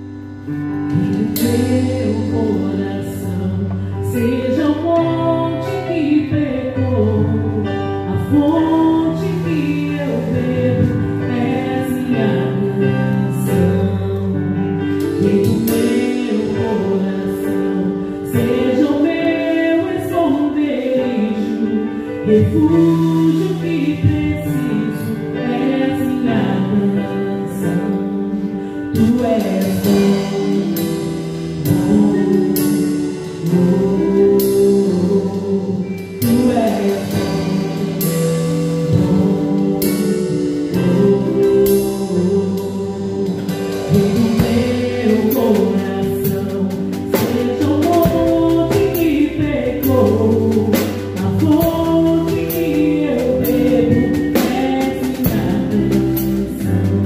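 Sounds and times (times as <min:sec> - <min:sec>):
band playing slow gospel song: 0:00.0 - 0:57.0
person singing: 0:00.8 - 0:57.0.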